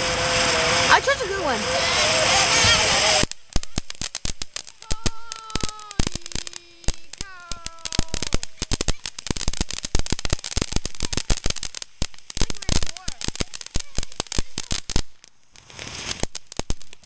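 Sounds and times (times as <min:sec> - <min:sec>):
firework crackling: 0:00.0 - 0:17.0.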